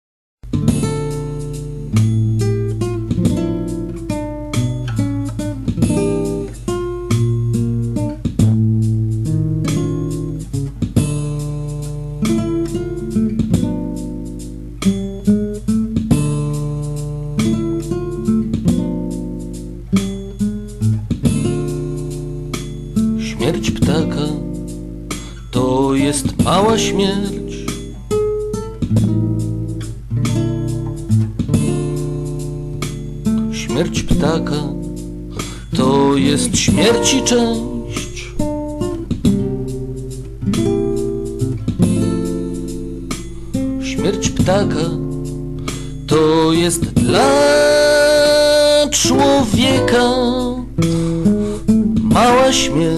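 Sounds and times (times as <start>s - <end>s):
guitar plucked notes and chords: 0.4s - 52.9s.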